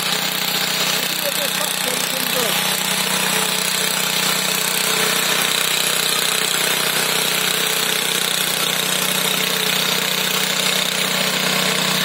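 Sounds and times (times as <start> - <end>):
ride-on tractor engine humming: 0.0 - 12.0.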